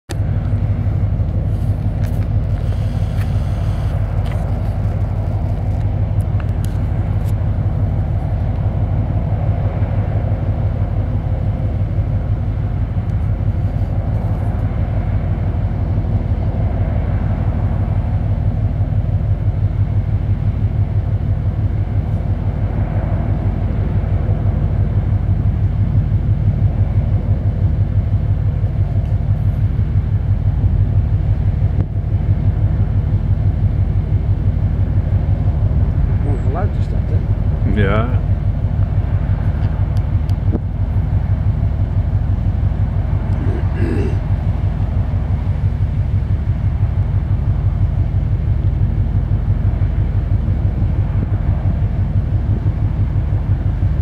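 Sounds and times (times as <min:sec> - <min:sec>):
ship engine rumble: 0:00.1 - 0:54.0.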